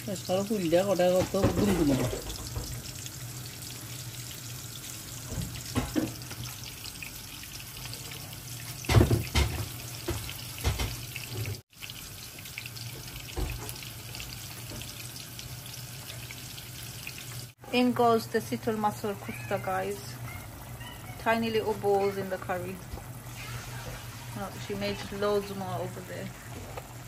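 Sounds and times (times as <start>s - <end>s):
water running from tap: 0.0s - 27.0s.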